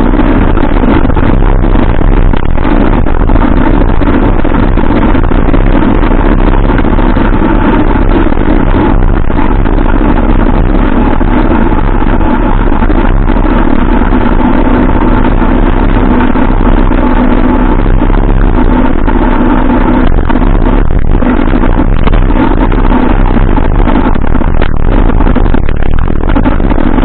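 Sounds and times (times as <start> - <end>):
steady hum: 0.0 - 27.0
wind and road noise: 0.0 - 27.0.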